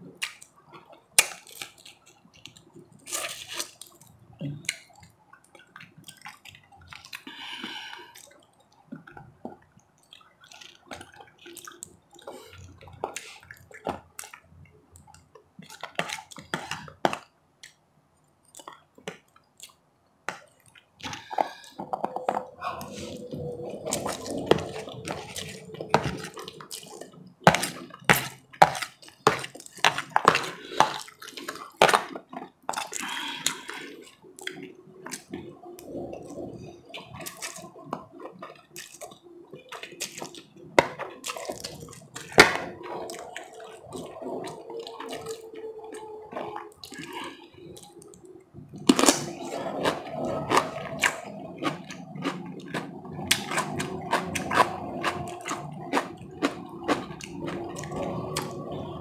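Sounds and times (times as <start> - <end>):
slurping and chewing noodles: 0.0 - 17.8, 18.5 - 59.0.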